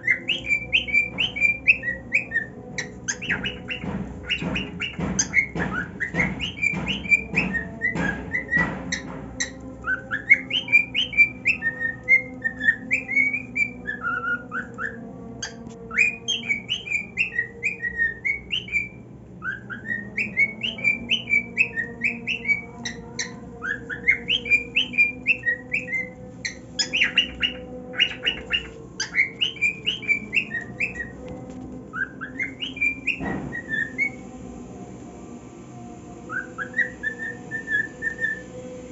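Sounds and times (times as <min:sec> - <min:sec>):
cockatiel whistling song: 0:00.0 - 0:34.4, 0:36.3 - 0:38.9.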